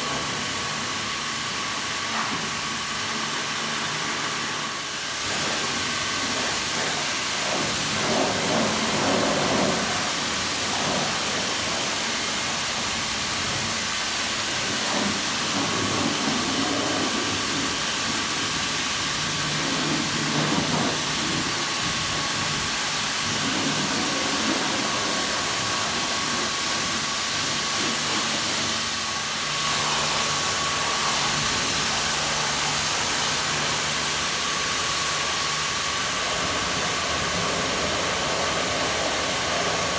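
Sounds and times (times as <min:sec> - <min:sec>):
pressure washer water jet hissing: 0:00.0 - 0:39.9
washer motor and pump humming: 0:00.0 - 0:39.9.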